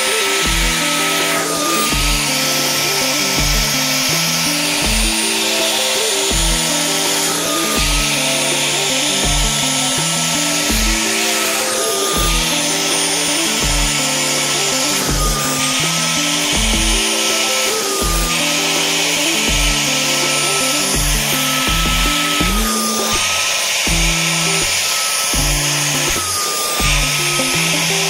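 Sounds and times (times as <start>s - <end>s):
background music with a beat: 0.0s - 28.0s
spot cleaner suction motor whining: 0.0s - 28.0s.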